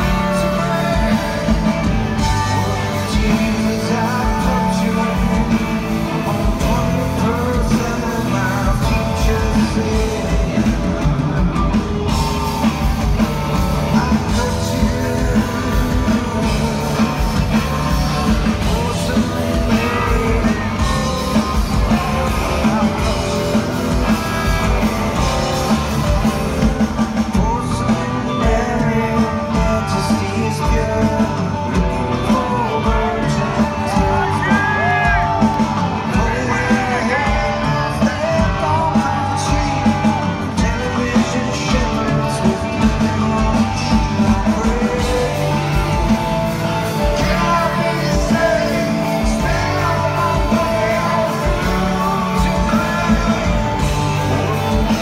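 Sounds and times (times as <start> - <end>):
male singer singing: 0.0 - 55.0
rock band playing live: 0.0 - 55.0.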